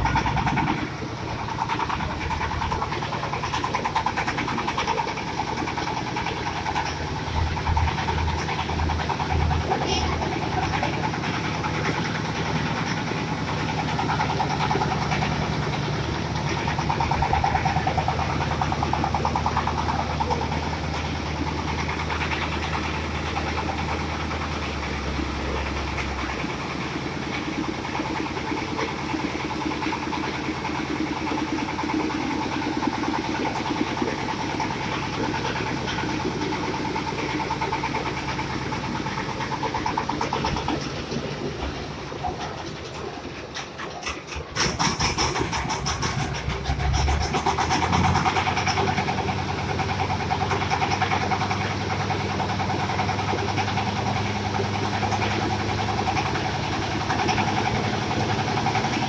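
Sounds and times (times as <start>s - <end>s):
corn sheller engine throbbing: 0.0s - 59.0s.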